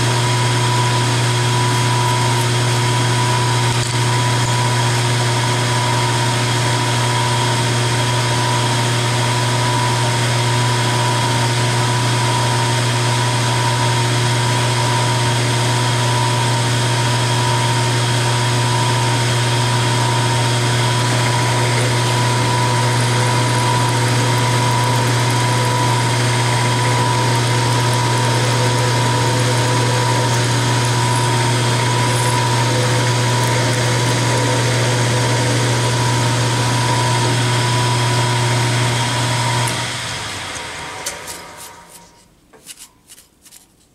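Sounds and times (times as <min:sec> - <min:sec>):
milling machine humming and whining: 0:00.0 - 0:42.2.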